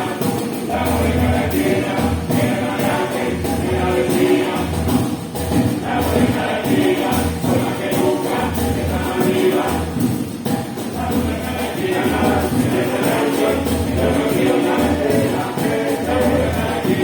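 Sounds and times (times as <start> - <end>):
voices singing together: 0.0 - 17.0.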